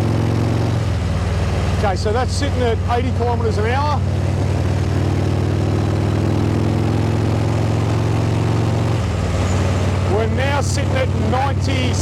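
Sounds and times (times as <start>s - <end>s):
motorcycle engine at speed: 0.0s - 12.0s.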